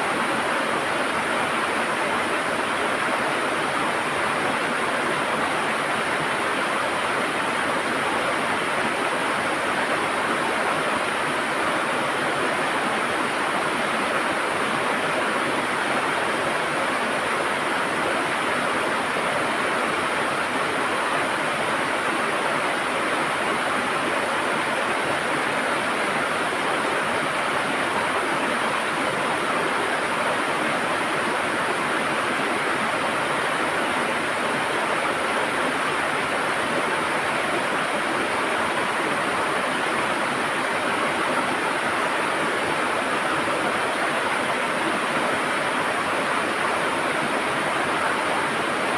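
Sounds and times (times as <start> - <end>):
river water flowing and gurgling: 0.0 - 48.9.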